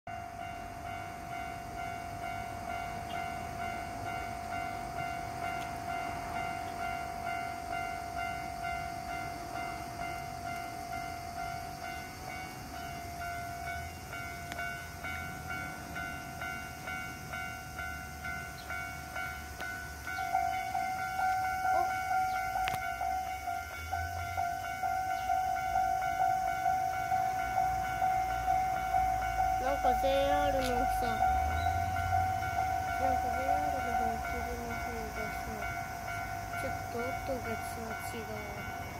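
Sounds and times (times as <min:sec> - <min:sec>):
level crossing warning bell: 0:00.1 - 0:38.9.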